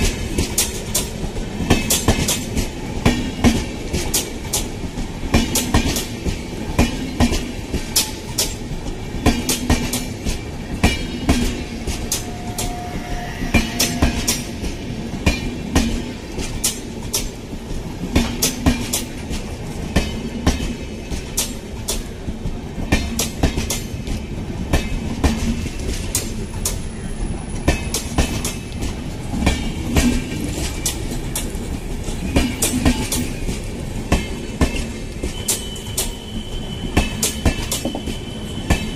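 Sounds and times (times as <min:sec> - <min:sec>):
clacks over rail joints: 0:00.0 - 0:12.5, 0:13.9 - 0:26.9, 0:27.5 - 0:36.3
train wheels rumbling on rails: 0:00.0 - 0:38.9.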